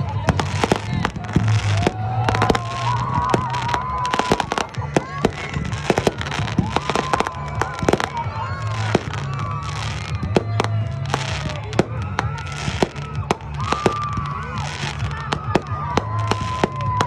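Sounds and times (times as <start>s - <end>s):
fireworks bangs: 0.0s - 17.0s
fireworks whistling: 0.0s - 17.0s.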